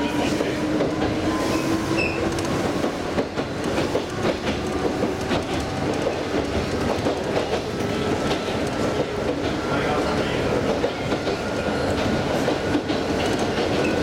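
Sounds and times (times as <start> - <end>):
electric train running hum: 0.0 - 14.0.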